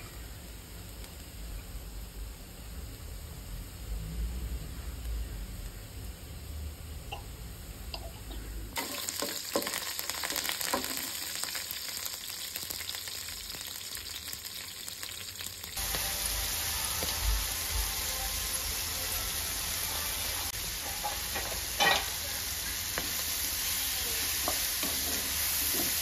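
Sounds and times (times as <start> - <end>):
food sizzling in a pan: 4.8 - 26.0.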